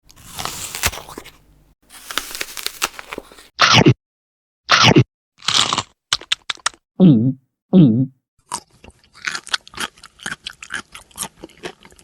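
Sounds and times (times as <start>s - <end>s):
crunchy eating noise: 0.0s - 4.0s, 4.7s - 6.8s, 8.4s - 12.0s.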